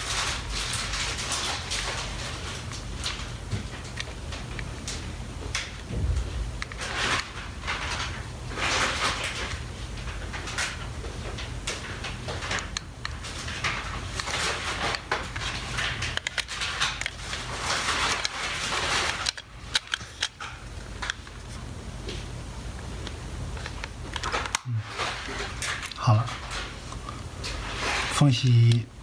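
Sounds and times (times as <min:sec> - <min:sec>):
plastic parts rustling and scraping: 0:00.0 - 0:22.2, 0:23.6 - 0:28.8
steady low hum: 0:00.0 - 0:29.0.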